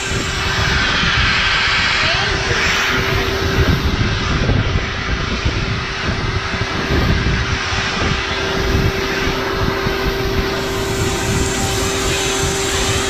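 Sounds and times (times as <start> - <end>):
shop vacuum droning: 0.0 - 13.0.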